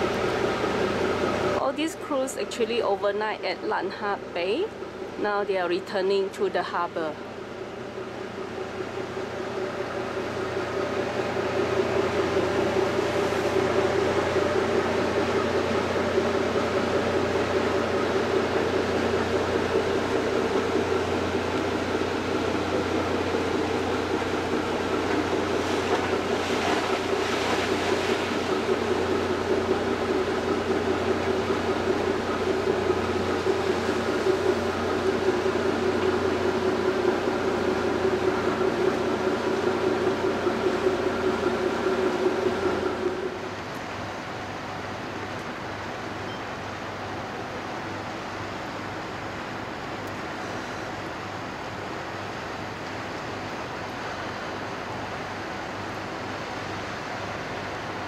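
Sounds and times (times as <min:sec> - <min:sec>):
ship engine droning: 0:00.0 - 0:58.0.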